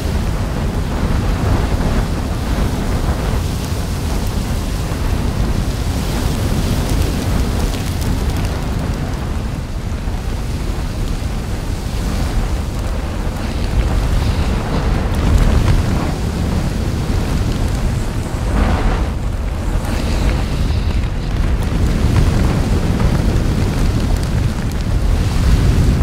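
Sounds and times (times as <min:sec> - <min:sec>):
deep lava rumble: 0:00.0 - 0:26.0
lava spattering crackles: 0:00.1 - 0:26.0.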